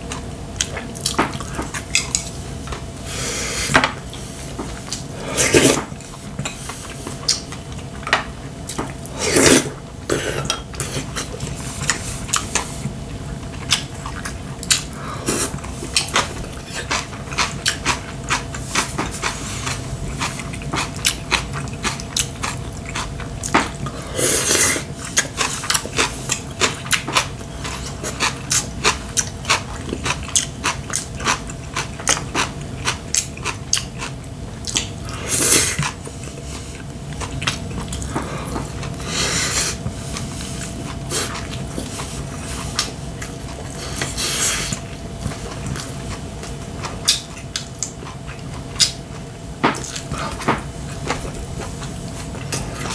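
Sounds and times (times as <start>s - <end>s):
chewing and smacking: 0.0s - 2.9s, 5.8s - 9.1s, 10.5s - 39.1s, 39.7s - 52.9s.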